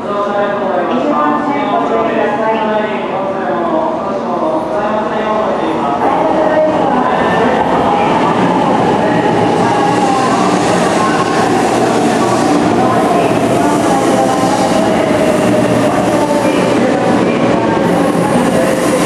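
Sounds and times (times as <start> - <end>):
train rushing rumble: 3.7 - 19.0.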